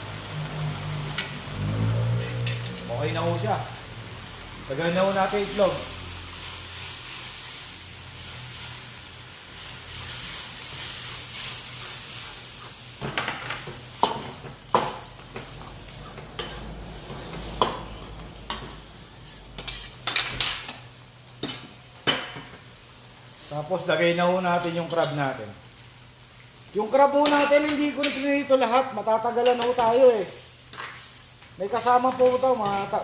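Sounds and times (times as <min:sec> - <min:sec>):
sauce sizzling in a wok: 0:00.0 - 0:33.0.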